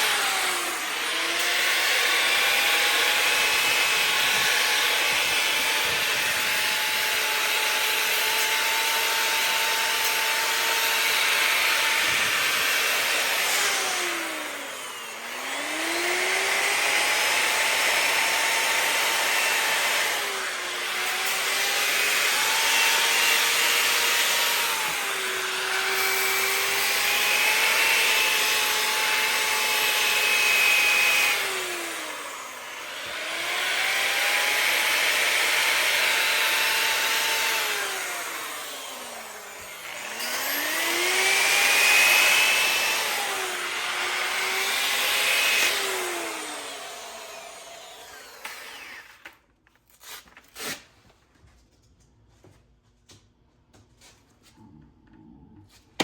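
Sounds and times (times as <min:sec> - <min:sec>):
grinder motor whine: 0:00.0 - 0:49.4.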